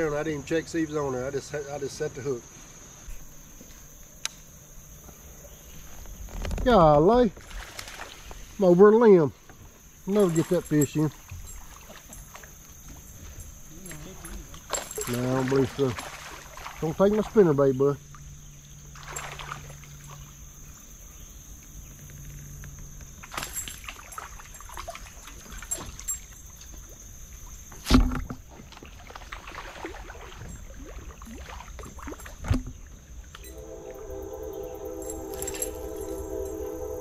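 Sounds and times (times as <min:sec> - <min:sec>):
faint water sounds: 0:00.0 - 0:37.0.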